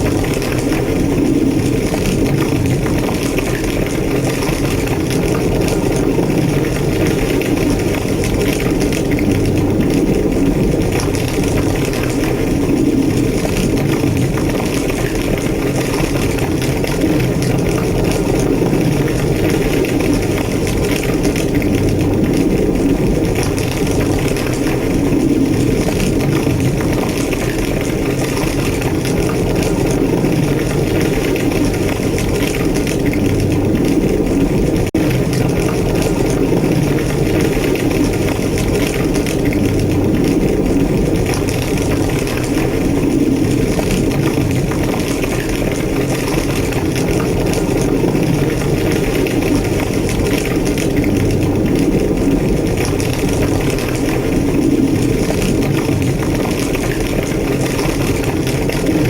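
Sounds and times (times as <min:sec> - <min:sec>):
large fire roaring and crackling: 0:00.0 - 0:59.0.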